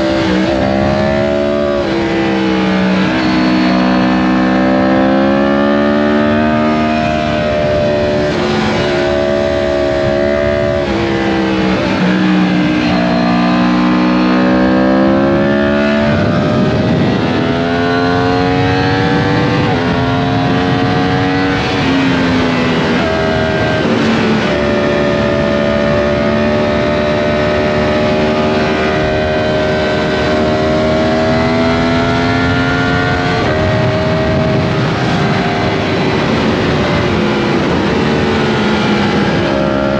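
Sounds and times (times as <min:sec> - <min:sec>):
motorcycle engine revving through gears: 0:00.0 - 0:39.9
wind rush: 0:00.0 - 0:39.9.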